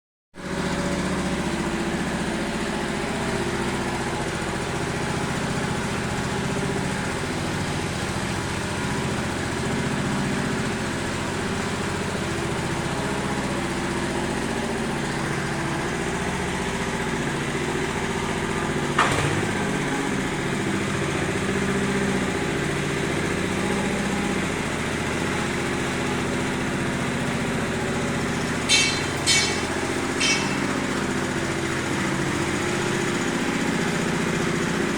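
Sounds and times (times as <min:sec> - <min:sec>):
small petrol engine running: 0:00.4 - 0:34.9.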